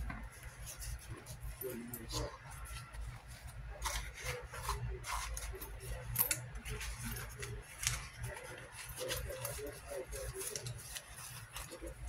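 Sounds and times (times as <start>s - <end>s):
rustling and light clicking: 0.0s - 12.0s
steady low hum: 0.0s - 12.0s.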